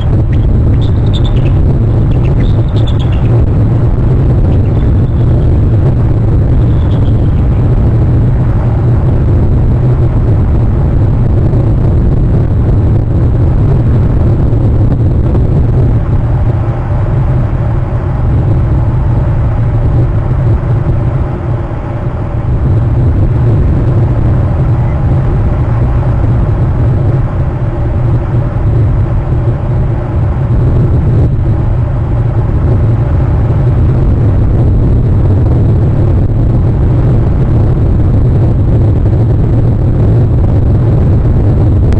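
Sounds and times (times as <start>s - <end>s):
faint hum: 0.0s - 41.9s
wind buffeting microphone: 0.0s - 41.9s.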